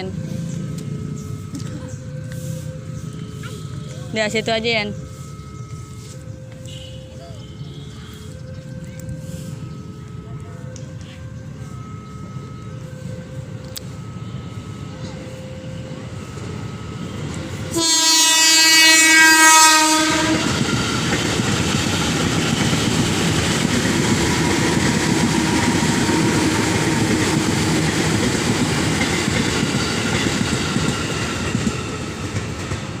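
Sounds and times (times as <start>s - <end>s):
train rumbling past: 0.0s - 33.0s
train horn blast: 1.2s - 30.9s.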